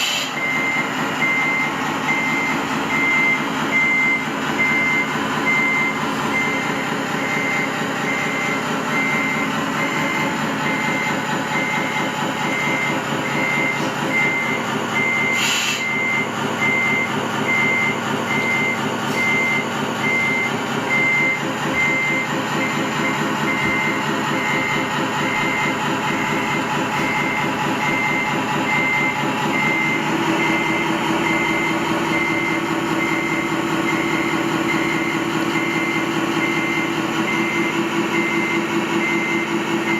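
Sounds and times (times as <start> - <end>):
reversing alarm beeping: 0.0 - 39.9.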